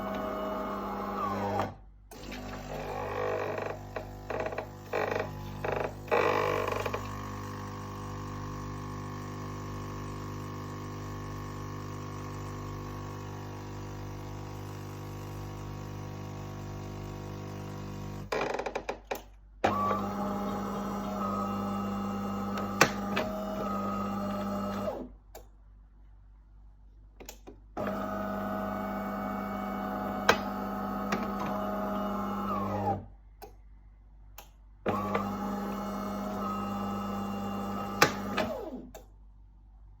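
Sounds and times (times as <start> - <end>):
coffee machine humming: 0.0 - 18.3, 19.7 - 24.9, 27.8 - 33.0, 34.9 - 38.6.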